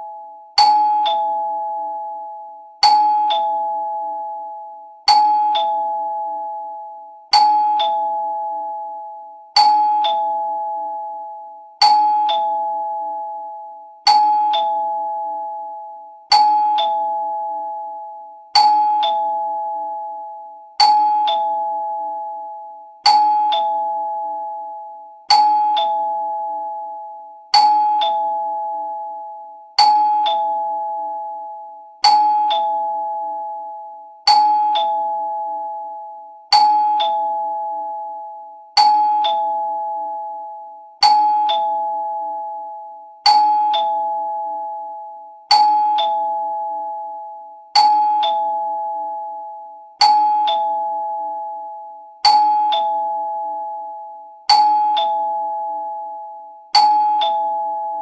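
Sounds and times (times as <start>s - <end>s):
two-tone doorbell chime: 0.0s - 58.0s.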